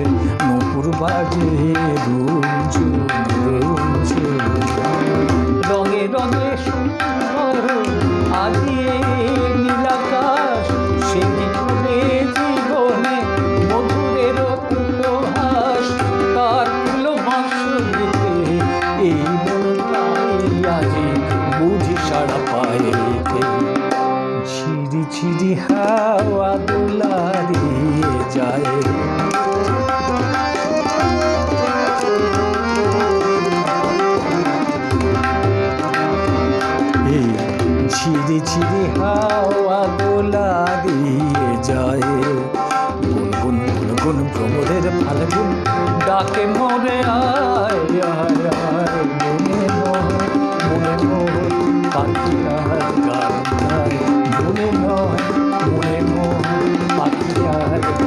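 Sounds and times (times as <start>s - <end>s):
keyboard melody: 0.0s - 58.0s
tabla rhythm: 0.0s - 58.0s.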